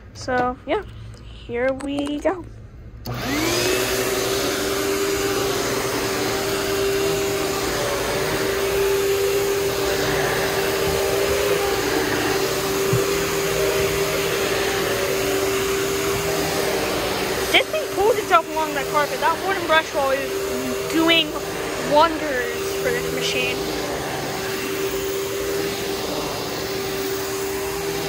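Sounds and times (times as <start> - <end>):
vacuum cleaner motor whine: 3.0 - 28.0.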